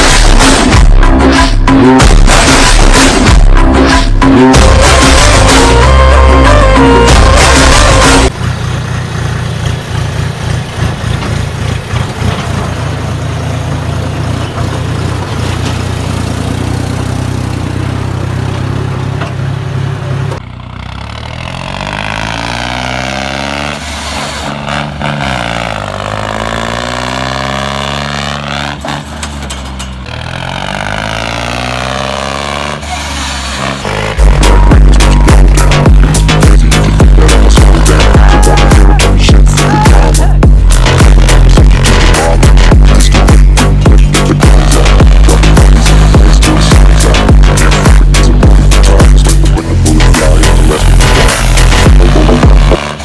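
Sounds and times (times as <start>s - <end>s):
tractor diesel engine revving: 0.0s - 53.0s.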